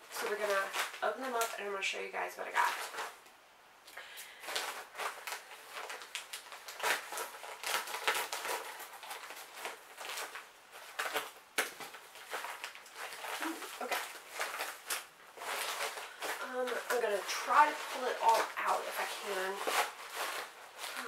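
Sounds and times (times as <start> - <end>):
plastic mailer tearing and rustling: 0.1 - 3.2, 4.3 - 21.0.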